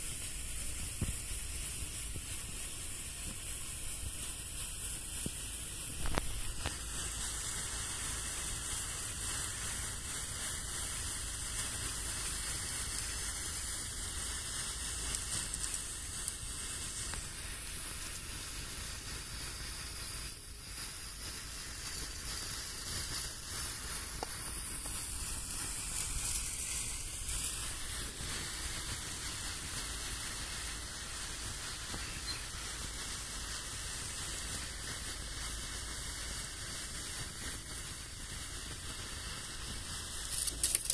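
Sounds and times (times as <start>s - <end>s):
fireworks hissing sizzle: 0.0s - 40.9s.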